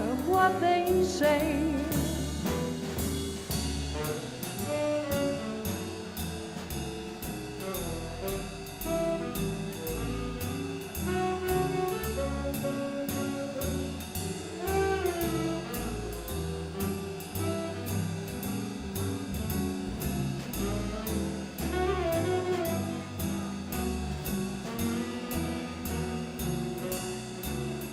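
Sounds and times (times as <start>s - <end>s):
drums keeping a beat: 0.0s - 27.9s
walking upright bass: 0.0s - 27.9s
saxophones and brass: 3.9s - 6.2s, 7.6s - 27.9s.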